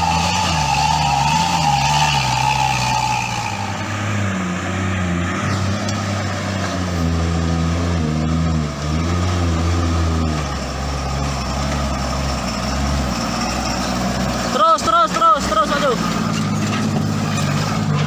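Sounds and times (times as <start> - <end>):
vehicle engine running under load: 0.0 - 18.0.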